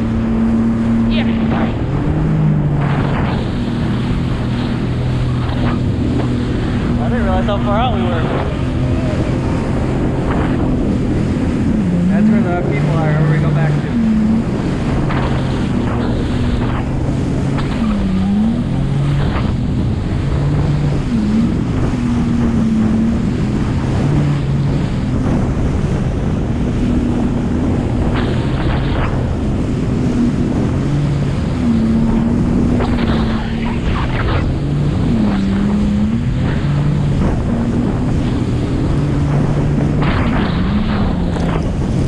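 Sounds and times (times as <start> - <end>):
jet ski engine humming: 0.0 - 42.0
water slapping against hull: 0.0 - 42.0
wind buffeting microphone: 0.0 - 42.0.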